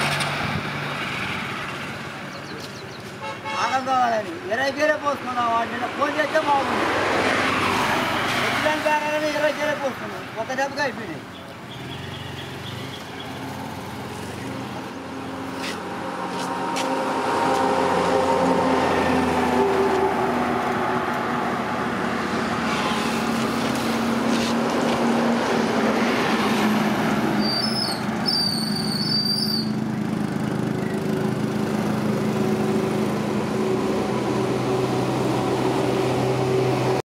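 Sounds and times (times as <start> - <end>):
passing road traffic: 0.0 - 37.0.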